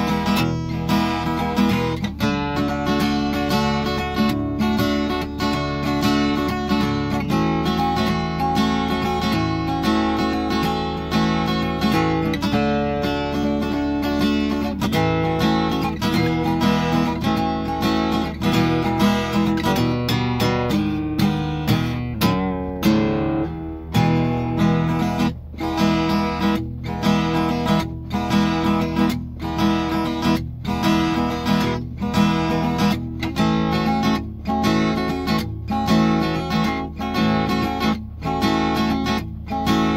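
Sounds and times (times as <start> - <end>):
acoustic guitar strumming chords: 0.0 - 39.9.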